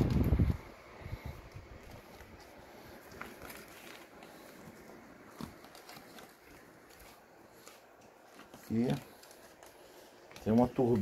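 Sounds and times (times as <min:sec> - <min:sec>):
faint soft clicks and rustles: 0:00.0 - 0:11.0.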